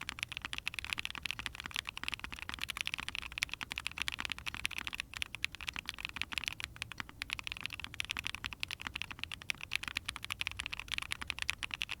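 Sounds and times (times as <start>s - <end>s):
mechanical keyboard typing clacks: 0.0s - 12.0s.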